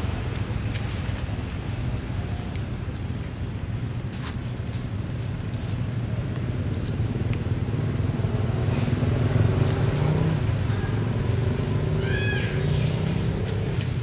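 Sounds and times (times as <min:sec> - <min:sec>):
motor vehicle engine running: 0:00.0 - 0:14.0.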